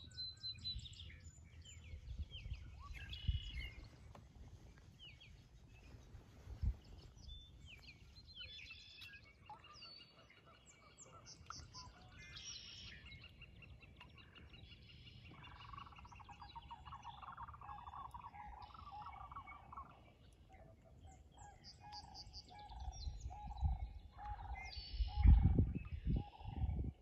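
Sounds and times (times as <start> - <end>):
birds calling and singing: 0.0 - 27.0.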